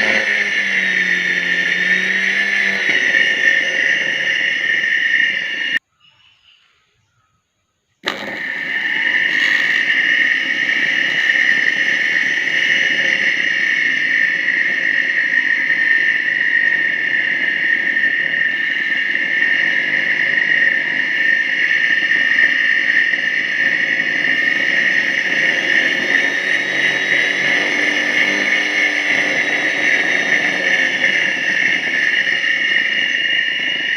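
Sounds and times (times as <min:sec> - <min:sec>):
radiator cooling fan whirring: 0:00.0 - 0:05.8, 0:08.1 - 0:33.9.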